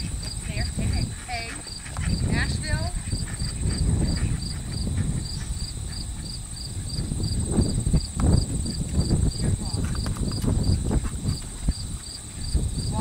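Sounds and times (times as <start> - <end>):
crickets chirping: 0.0 - 13.0
low rumble on microphone: 0.0 - 13.0.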